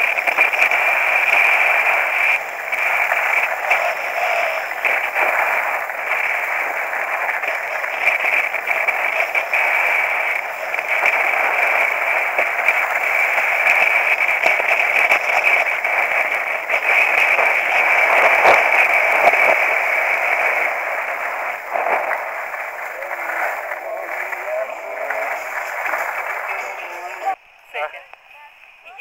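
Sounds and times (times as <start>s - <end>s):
skis sliding on snow: 0.0s - 27.4s
wind rushing: 0.1s - 27.4s.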